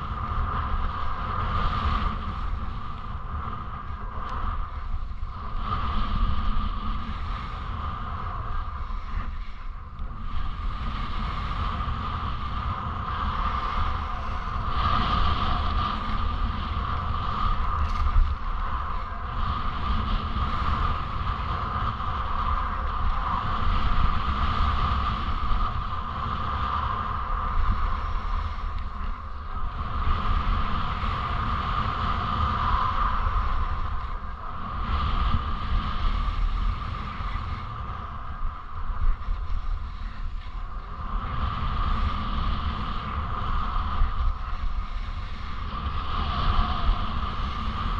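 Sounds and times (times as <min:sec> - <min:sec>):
skis scraping over snow: 0:00.0 - 0:47.9
wind buffeting microphone: 0:00.0 - 0:47.9.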